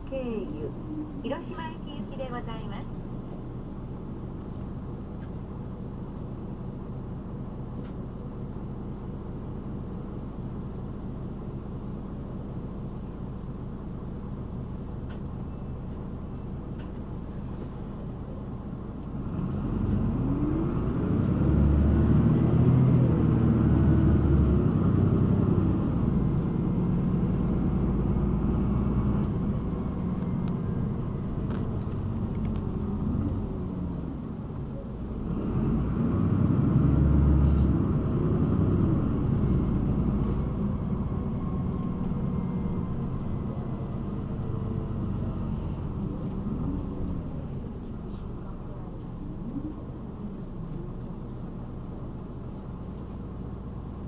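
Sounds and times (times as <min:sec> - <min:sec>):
bus engine accelerating: 0:00.0 - 0:54.0
road noise: 0:00.0 - 0:54.0.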